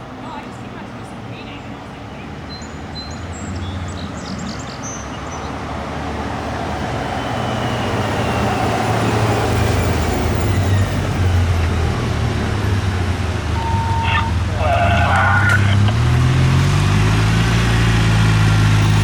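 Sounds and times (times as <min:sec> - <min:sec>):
heavy vehicle engine and tyres: 0:00.0 - 0:19.0.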